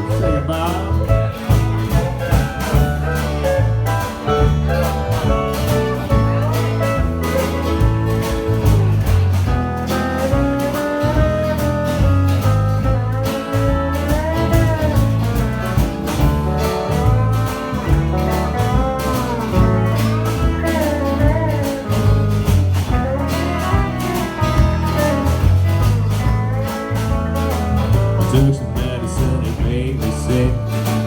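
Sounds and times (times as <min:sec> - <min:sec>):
lead instrument solo: 0:00.0 - 0:29.0
bass: 0:00.0 - 0:31.0
rhythm guitar: 0:00.0 - 0:31.0.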